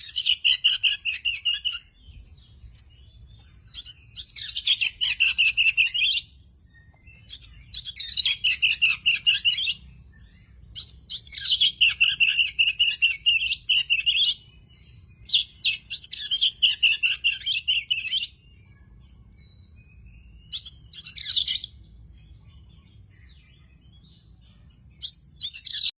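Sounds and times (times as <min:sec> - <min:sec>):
bird singing rapid high notes: 0:00.0 - 0:25.9.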